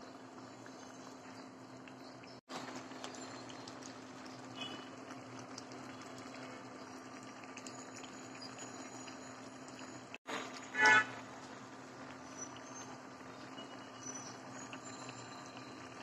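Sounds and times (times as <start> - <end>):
curry simmering and bubbling: 0.0 - 16.0.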